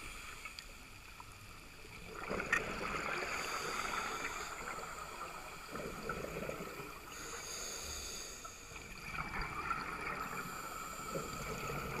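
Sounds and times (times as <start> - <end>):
steady hiss: 0.0 - 1.6, 3.0 - 9.1, 9.8 - 12.0.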